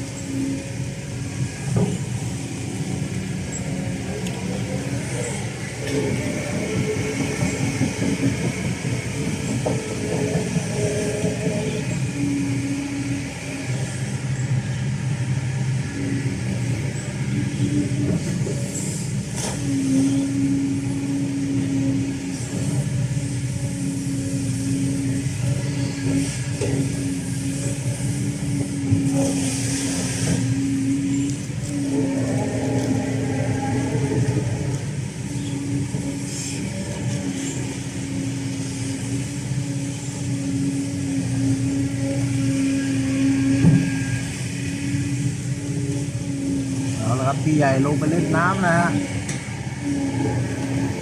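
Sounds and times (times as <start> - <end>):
excavator engine and hydraulics humming: 0.0 - 51.0.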